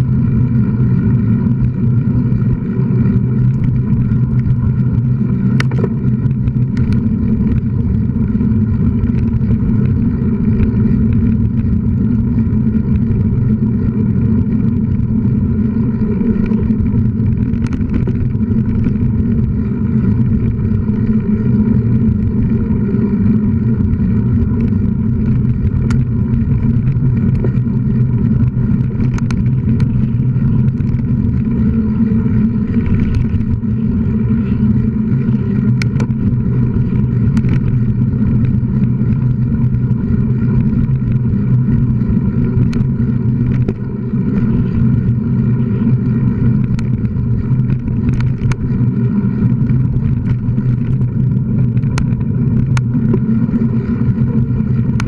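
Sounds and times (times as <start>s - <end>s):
vehicle drone on bumpy trail: 0.0s - 55.0s.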